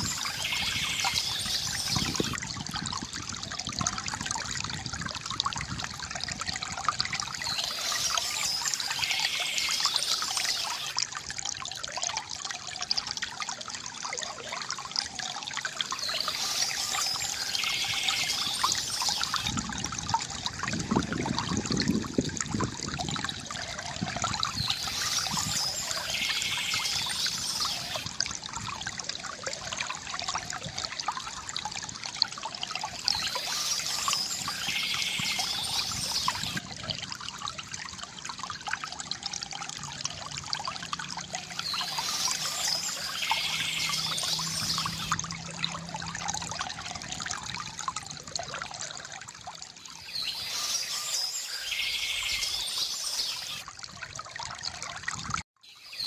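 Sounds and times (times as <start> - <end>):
water fountain trickling: 0.0 - 56.0.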